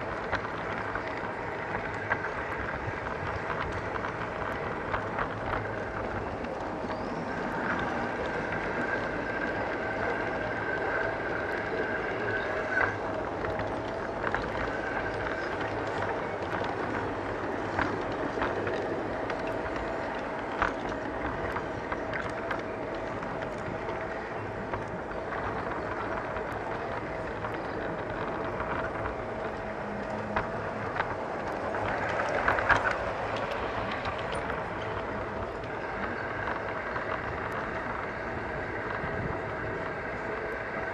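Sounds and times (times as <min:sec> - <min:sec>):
wheels clicking over rail joints: 0:00.0 - 0:40.9.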